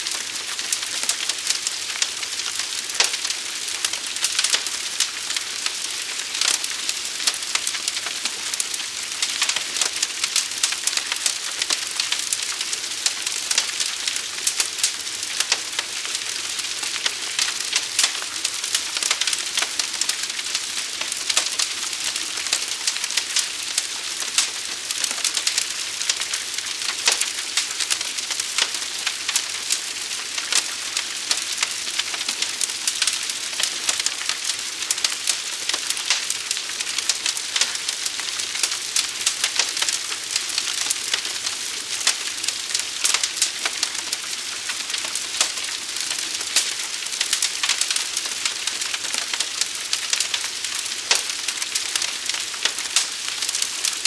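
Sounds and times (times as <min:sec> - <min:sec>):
fire crackling and hissing: 0:00.0 - 0:54.0.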